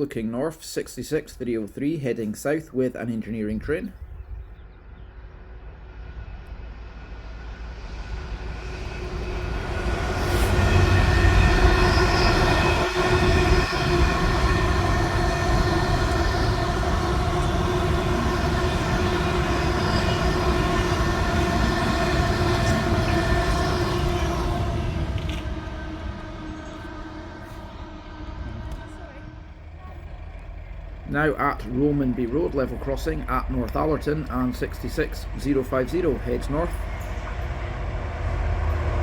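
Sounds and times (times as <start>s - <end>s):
diesel locomotive passing: 0.0s - 39.0s
train rolling past: 0.0s - 39.0s.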